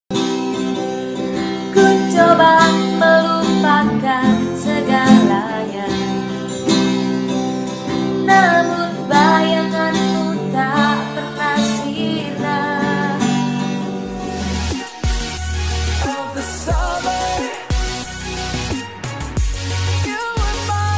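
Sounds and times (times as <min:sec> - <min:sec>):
acoustic guitar playing: 0:00.1 - 0:20.9.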